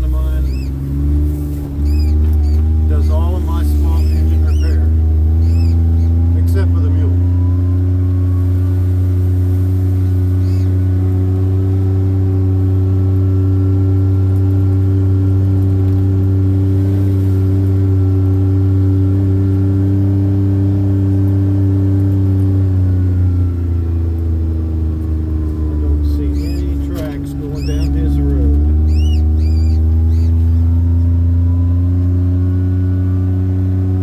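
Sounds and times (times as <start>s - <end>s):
car engine droning: 0.0s - 34.0s
road noise: 0.0s - 34.0s.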